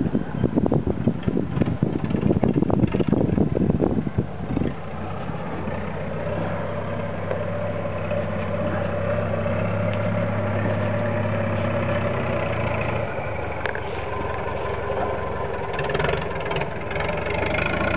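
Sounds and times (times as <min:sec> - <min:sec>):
boat engine idling: 0:01.4 - 0:17.9.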